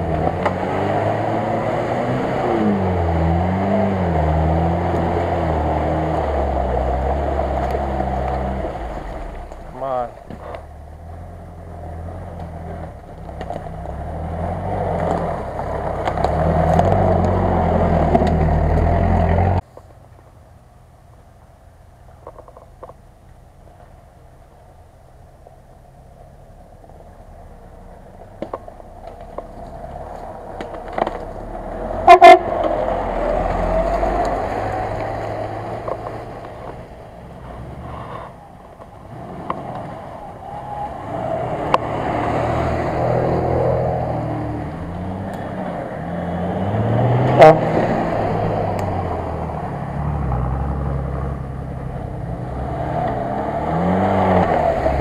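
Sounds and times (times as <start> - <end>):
off-road engines revving: 0.0 - 19.6, 27.4 - 55.0.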